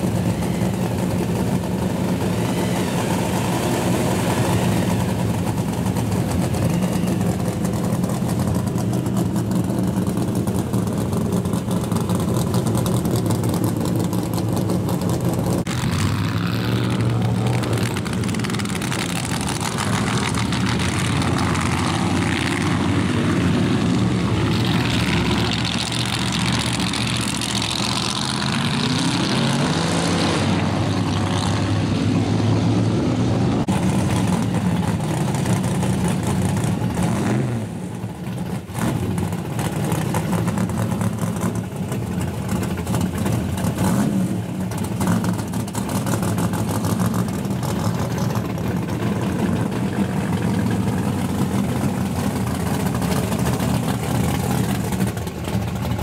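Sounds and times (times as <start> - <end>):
car engines revving: 0.0 - 56.0
car idling and revving: 0.0 - 56.0.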